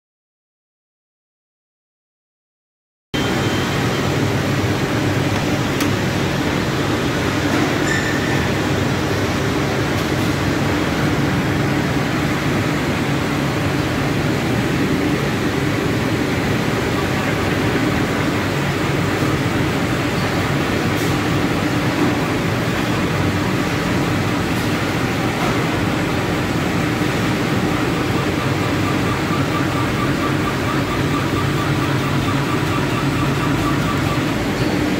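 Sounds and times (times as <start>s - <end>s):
cheese slicing machine whirring: 3.2s - 34.9s.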